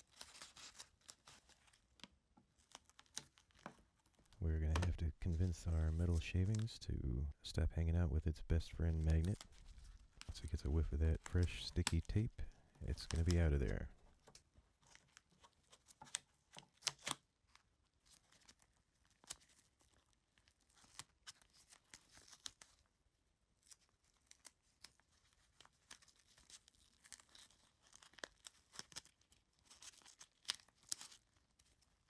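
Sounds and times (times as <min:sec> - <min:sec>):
tape crackling and tearing: 0:00.0 - 0:04.3, 0:08.8 - 0:22.9, 0:23.6 - 0:32.0.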